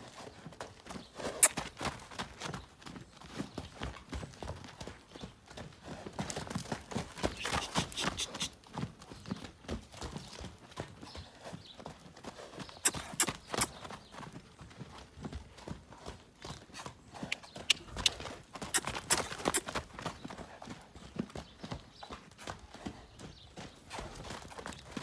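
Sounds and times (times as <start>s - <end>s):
horse hoofbeats on dirt: 0.0s - 25.0s
sharp hoof clicks: 0.1s - 25.0s.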